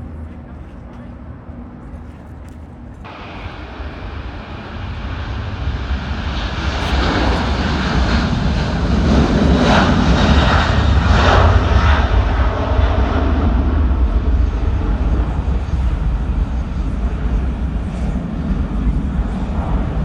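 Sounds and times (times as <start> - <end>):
jet airliner passing: 0.0 - 20.0.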